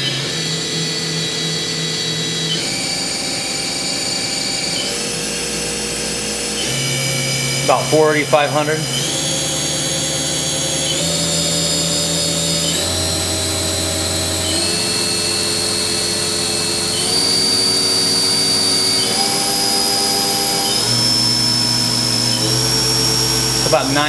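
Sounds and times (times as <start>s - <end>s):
machine spindle whine: 0.0s - 24.0s.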